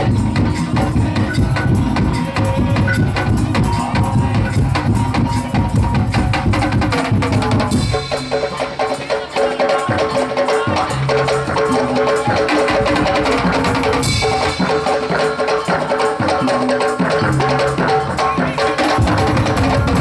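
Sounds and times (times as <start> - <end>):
fast wooden percussion strikes: 0.0 - 20.0
low drums: 0.0 - 20.0.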